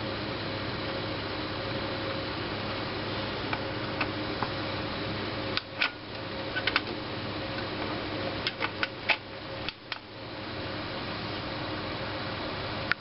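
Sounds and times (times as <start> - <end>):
computer fans humming: 0.0 - 13.0.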